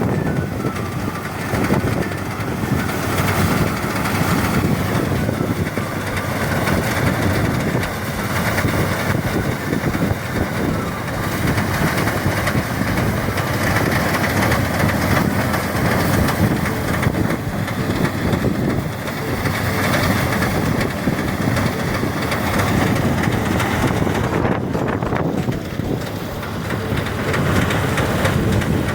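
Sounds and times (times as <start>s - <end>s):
rice thresher running: 0.0s - 28.9s.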